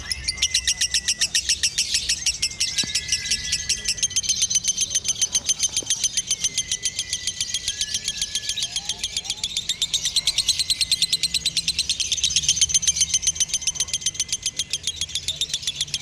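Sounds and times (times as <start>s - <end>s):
lovebird chattering: 0.0s - 16.0s.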